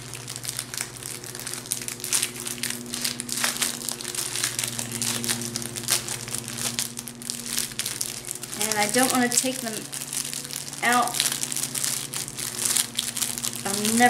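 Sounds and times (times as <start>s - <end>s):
faint steady hum: 0.0s - 14.0s
plastic wrapping crinkling: 0.0s - 14.0s.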